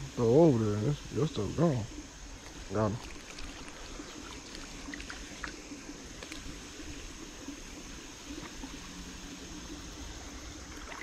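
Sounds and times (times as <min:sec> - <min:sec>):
creek trickling: 0:00.0 - 0:11.0.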